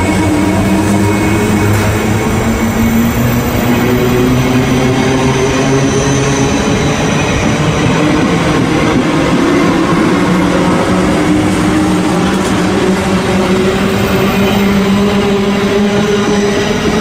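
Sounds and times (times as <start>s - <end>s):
electric train rolling: 0.0s - 17.0s.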